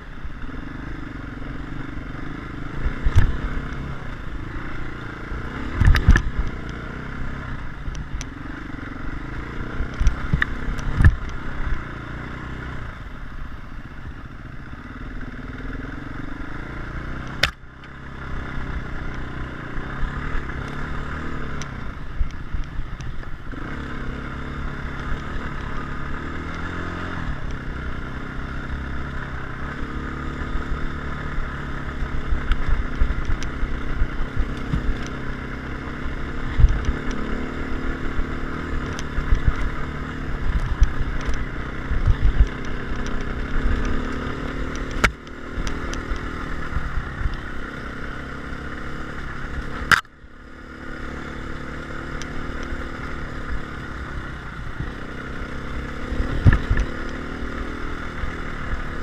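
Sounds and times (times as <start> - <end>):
dirt bike engine revving: 0.0 - 12.8, 14.8 - 22.0, 23.5 - 59.0.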